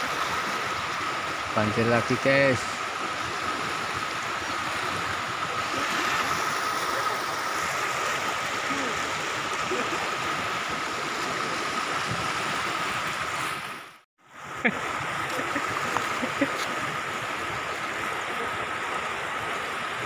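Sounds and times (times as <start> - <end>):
floodwater rushing through weir: 0.0 - 20.0.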